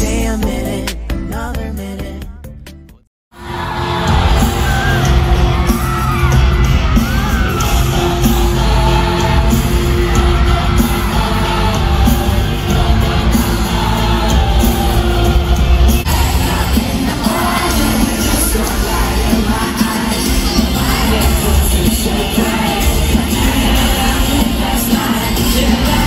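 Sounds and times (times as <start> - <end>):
crowd screaming and whooping: 3.4 - 26.0
pop-rock band playing live: 3.4 - 26.0.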